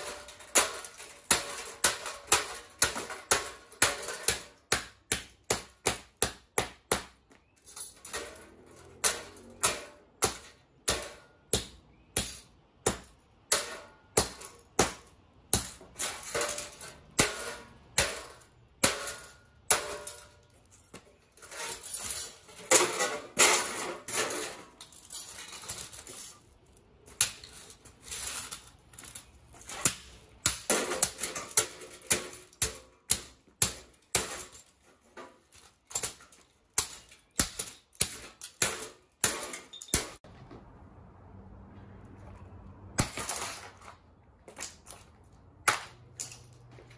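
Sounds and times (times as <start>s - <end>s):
hard blows smashing electronics: 0.0s - 40.3s, 43.0s - 45.0s, 45.6s - 46.5s
crunching and rattling of breaking parts: 0.0s - 40.5s, 42.2s - 46.9s.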